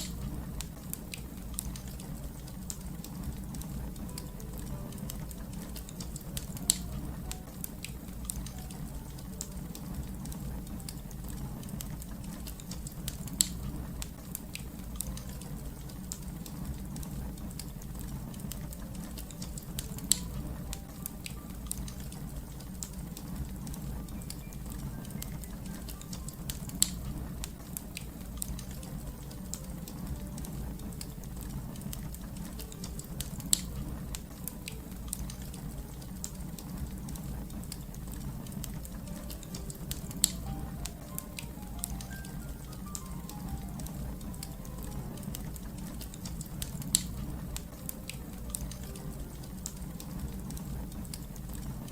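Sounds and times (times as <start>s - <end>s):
wood fire rumbling and crackling: 0.0s - 51.9s.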